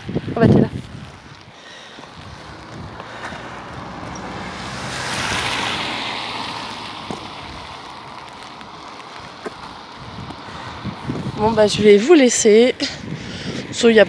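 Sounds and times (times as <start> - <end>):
car tyres hissing on wet road: 0.0 - 13.8.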